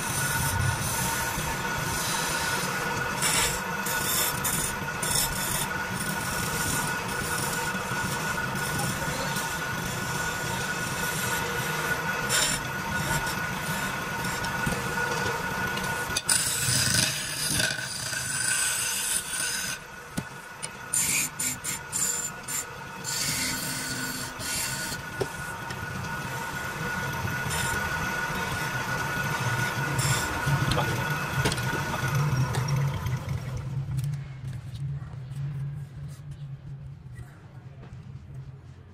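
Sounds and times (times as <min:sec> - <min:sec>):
chisel cutting spinning wood: 0:00.0 - 0:33.6
wood lathe humming: 0:00.0 - 0:33.7.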